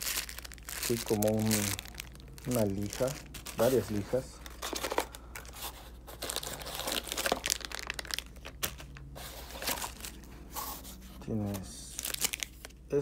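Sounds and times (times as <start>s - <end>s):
plastic bags crinkling: 0.0s - 10.3s, 11.5s - 12.8s.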